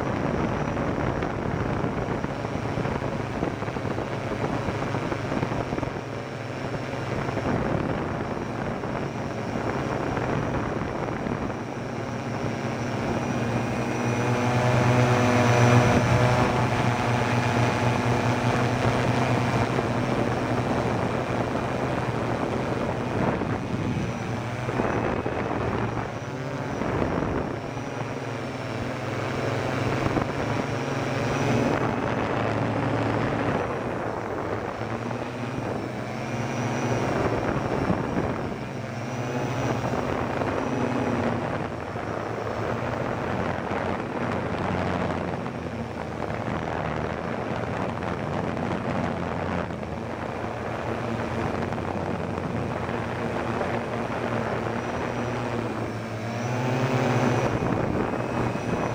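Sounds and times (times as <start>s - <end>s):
drone propellers buzzing: 0.0s - 58.9s.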